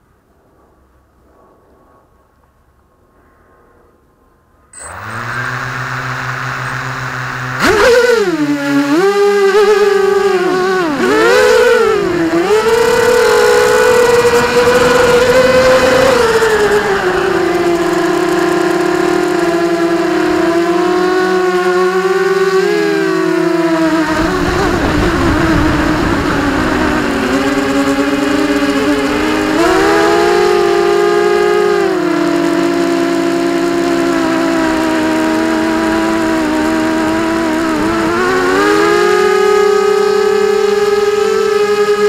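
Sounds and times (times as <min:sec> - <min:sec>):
drone motors whining: 0:04.8 - 0:42.0.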